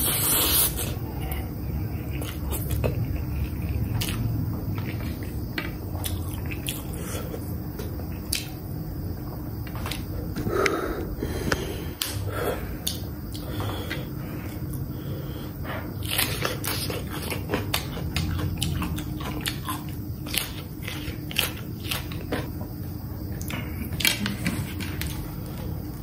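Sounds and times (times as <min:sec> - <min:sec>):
person chewing noodles: 0:00.0 - 0:08.6, 0:09.6 - 0:26.0.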